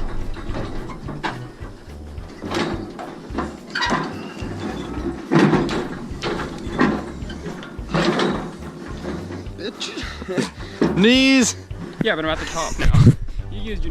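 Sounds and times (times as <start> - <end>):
knocks and scuffs of climbing: 0.0 - 13.1.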